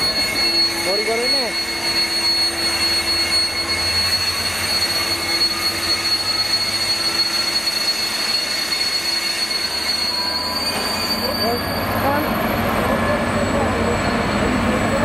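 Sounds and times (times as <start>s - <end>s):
high-pitched wheel squeal: 0.0s - 15.0s
train wheels on rail: 0.0s - 15.0s.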